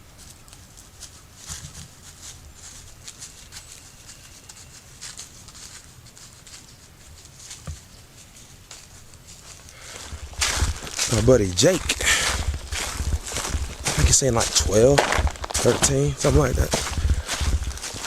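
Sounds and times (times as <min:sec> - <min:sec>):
light crackling and rustling: 0:00.1 - 0:18.0.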